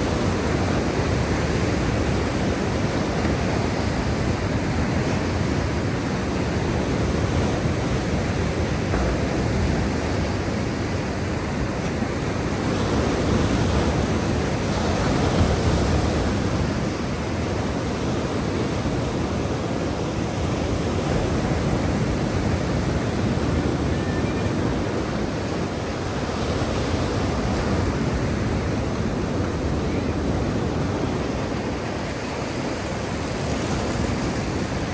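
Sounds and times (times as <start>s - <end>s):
waves washing in: 0.0s - 34.9s.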